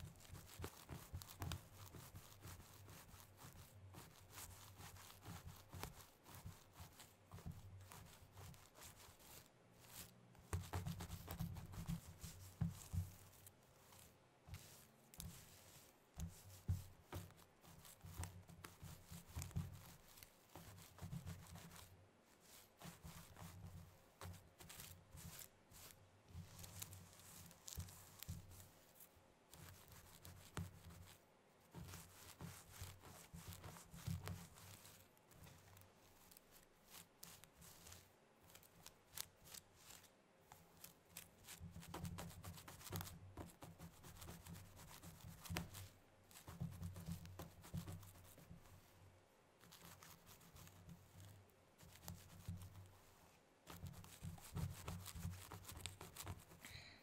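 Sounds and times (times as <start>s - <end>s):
nails scratching through hair: 0.0s - 49.0s, 49.6s - 56.7s.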